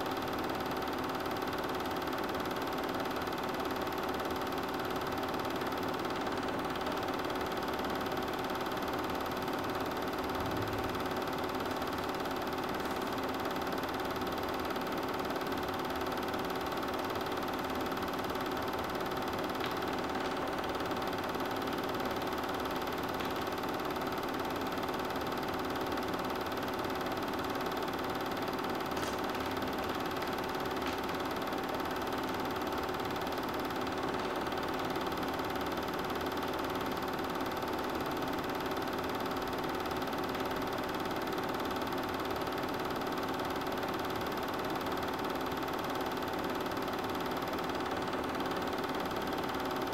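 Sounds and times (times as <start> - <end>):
film projector running: 0.0 - 49.9.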